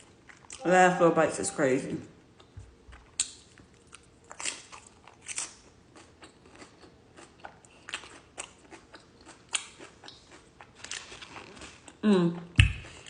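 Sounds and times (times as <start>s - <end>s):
person chewing food: 2.3s - 13.0s.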